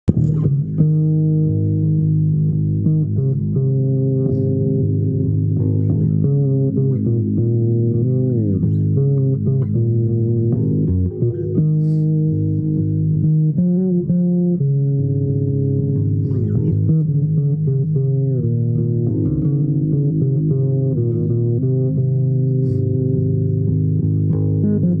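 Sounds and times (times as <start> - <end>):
low string instrument long notes: 0.1 - 25.0.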